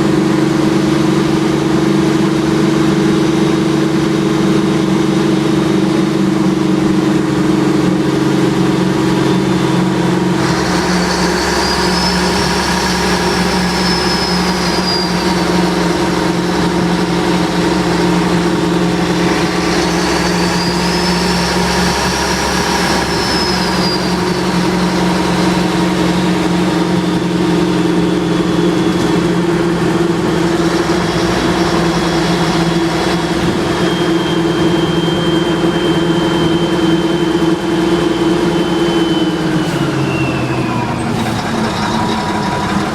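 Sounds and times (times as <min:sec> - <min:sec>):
diesel engine running: 0:00.0 - 0:42.9
high whine: 0:00.0 - 0:42.9.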